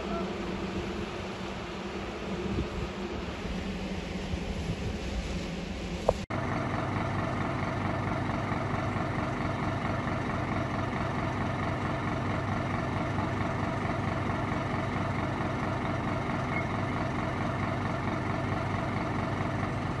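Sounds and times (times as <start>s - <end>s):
drone propellers whirring: 0.0s - 19.3s.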